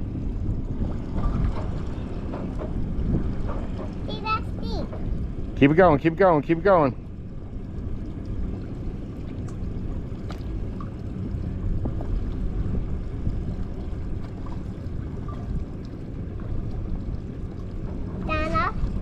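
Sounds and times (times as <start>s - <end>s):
water sloshing: 0.0s - 19.0s
wind: 0.0s - 19.0s.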